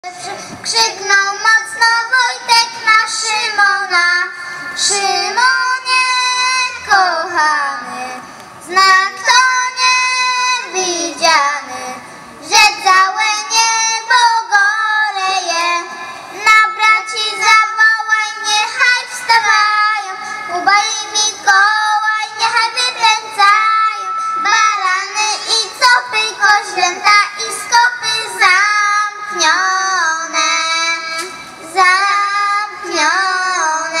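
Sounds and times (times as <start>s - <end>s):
girls singing into a microphone: 0.0s - 34.0s.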